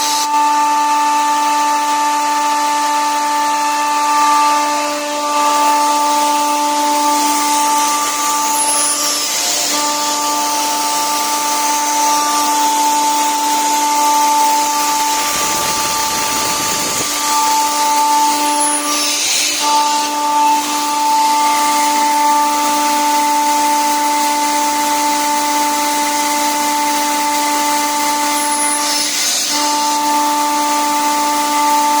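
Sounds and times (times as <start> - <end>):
air compressor whining: 0.0 - 32.0.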